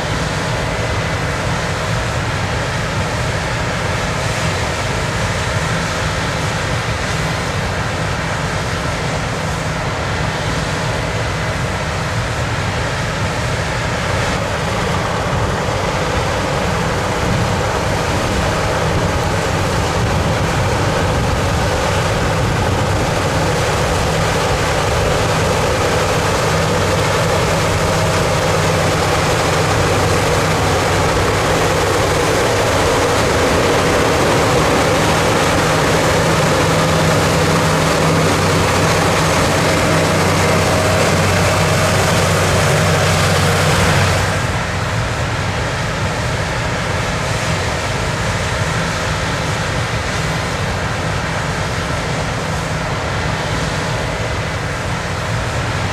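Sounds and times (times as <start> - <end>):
heavy engine running: 0.0 - 55.9.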